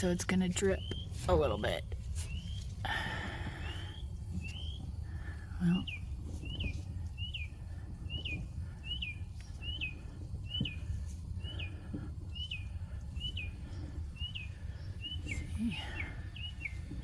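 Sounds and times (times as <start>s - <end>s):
low steady rumble: 0.0s - 17.0s
bird chirping: 0.4s - 17.0s.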